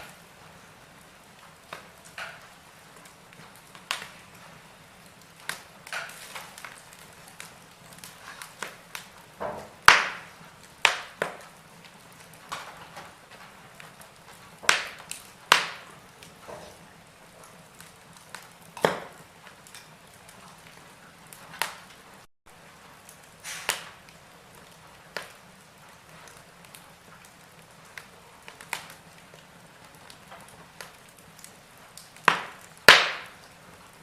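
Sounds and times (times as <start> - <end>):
fire popping: 0.0 - 34.0
wood fire crackling: 0.0 - 34.0.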